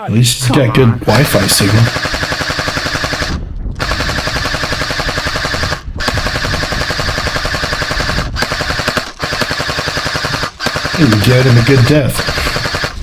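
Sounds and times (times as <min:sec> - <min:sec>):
airsoft rifles firing bursts: 0:01.3 - 0:13.0.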